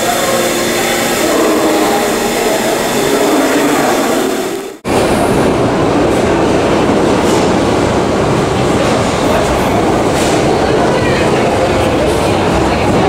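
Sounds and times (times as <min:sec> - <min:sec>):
subway train rumble and rattle: 0:00.0 - 0:13.0.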